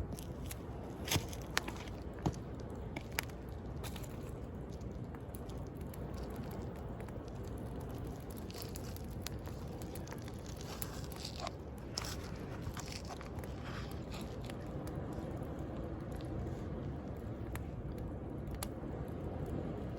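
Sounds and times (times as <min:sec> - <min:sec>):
bonfire crackling: 0:00.0 - 0:19.9.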